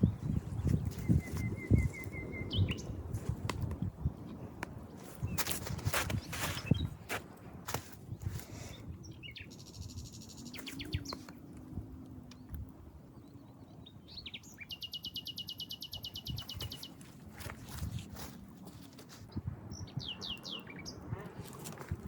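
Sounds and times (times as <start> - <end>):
songbirds trilling: 0.0 - 3.2, 4.2 - 22.0.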